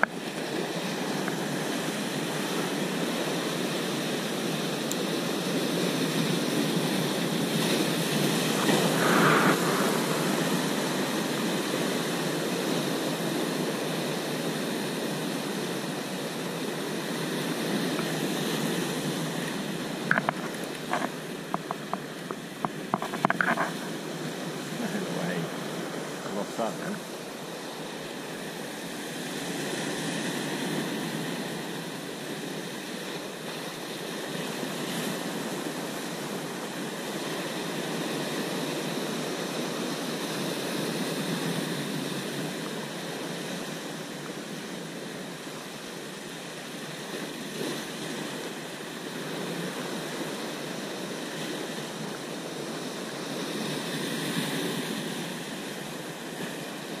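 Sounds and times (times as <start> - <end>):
sea surf breaking over rocks: 0.0 - 57.0.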